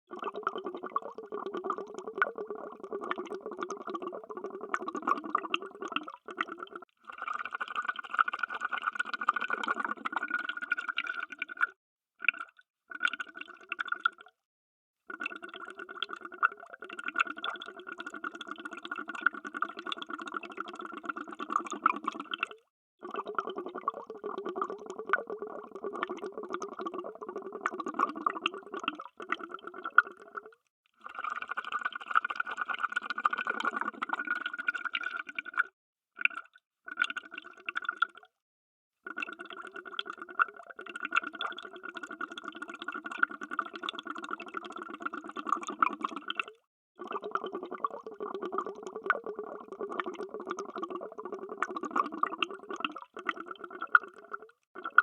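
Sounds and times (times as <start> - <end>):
underwater bubbles gurgling: 0.1 - 14.3, 15.2 - 38.2, 39.1 - 55.0.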